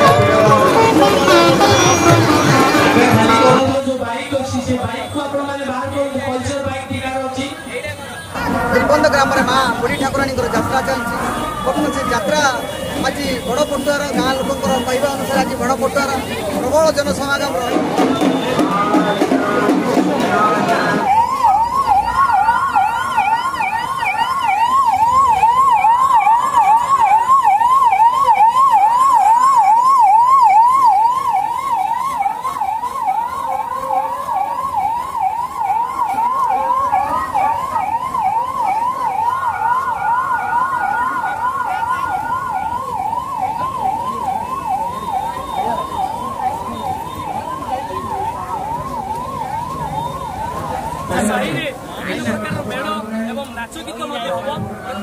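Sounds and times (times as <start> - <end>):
electronic yelp siren: 0.0 - 3.8, 8.0 - 17.7, 20.4 - 52.4.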